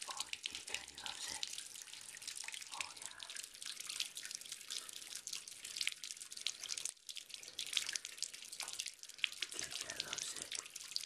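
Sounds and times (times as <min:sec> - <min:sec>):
water dripping: 0:00.0 - 0:11.0
water trickling from a tap: 0:00.0 - 0:11.0.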